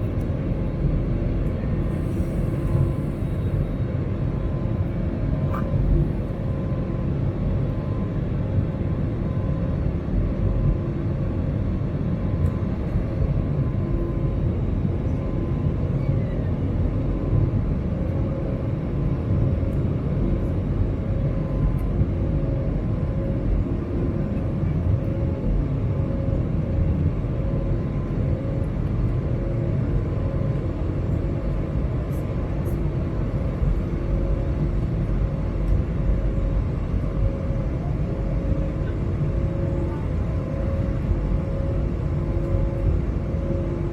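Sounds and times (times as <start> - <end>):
airplane cabin low rumble: 0.0 - 43.9
faint pulsing hum: 0.0 - 43.9.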